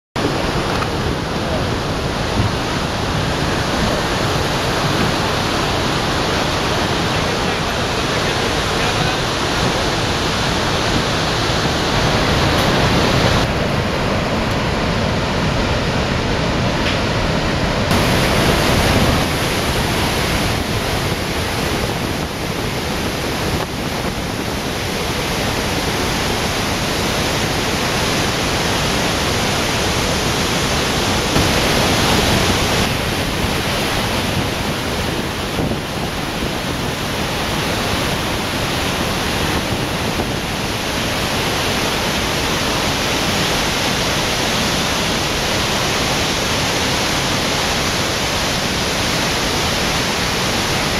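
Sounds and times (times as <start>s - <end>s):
waterfall rushing: 0.2s - 50.9s.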